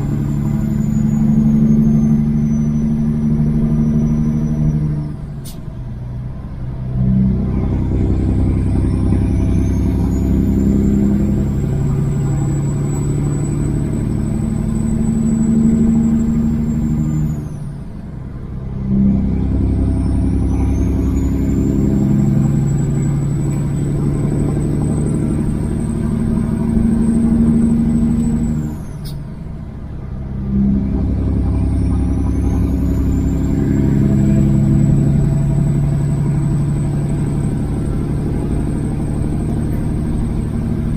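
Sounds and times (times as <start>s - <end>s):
truck diesel engine rumbling: 0.0s - 40.9s.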